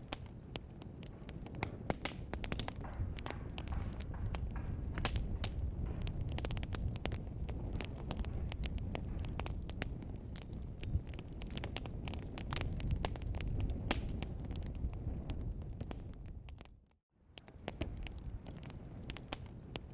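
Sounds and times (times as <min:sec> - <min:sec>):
fire crackles and pops: 0:00.0 - 0:19.9
low rumble of flames: 0:00.0 - 0:19.9.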